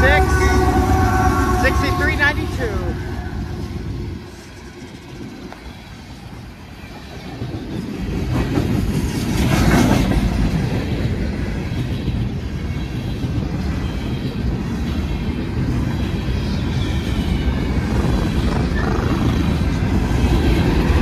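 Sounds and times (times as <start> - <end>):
freight train wheels rumbling on rails: 0.0 - 21.0.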